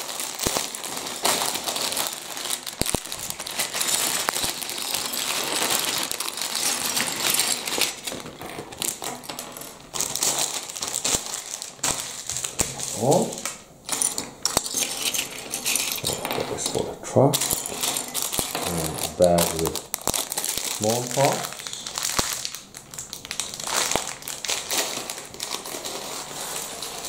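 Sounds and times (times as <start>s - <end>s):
plastic pieces clicking: 0.0s - 27.0s.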